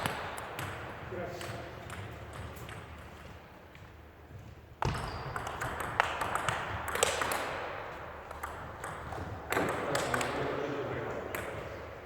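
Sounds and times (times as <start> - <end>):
ping pong ball clicking on bats: 0.0 - 3.4, 4.8 - 10.6, 11.2 - 11.8.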